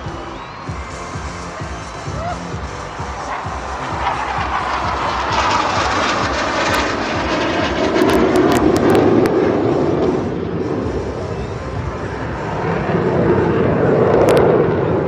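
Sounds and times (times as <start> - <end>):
jet aircraft roar: 0.0 - 15.0.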